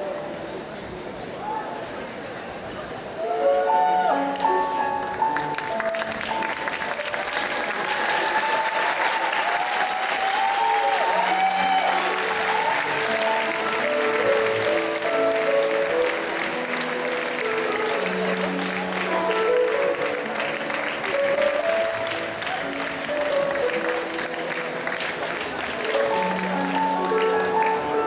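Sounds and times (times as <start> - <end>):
waltz music over speakers: 0.0 - 1.0, 3.1 - 9.5, 10.3 - 28.0
audience applauding: 5.0 - 28.0.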